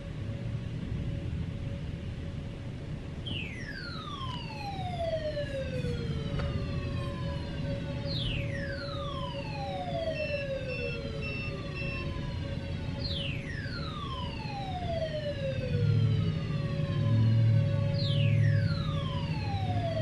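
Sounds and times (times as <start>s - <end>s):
siren wail sweeping down: 3.2s - 20.0s.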